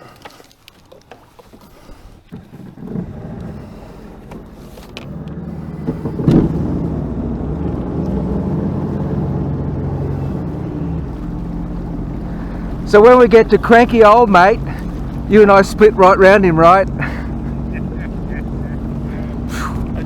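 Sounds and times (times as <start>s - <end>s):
jet ski engine running: 0.0s - 20.0s.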